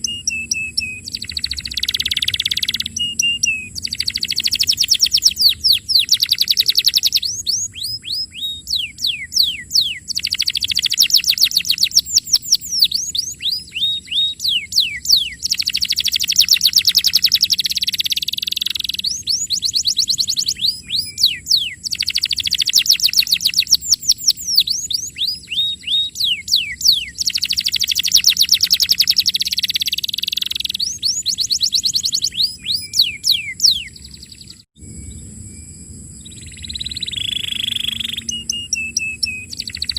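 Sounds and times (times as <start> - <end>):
canary singing: 0.0 - 34.6, 36.2 - 39.9.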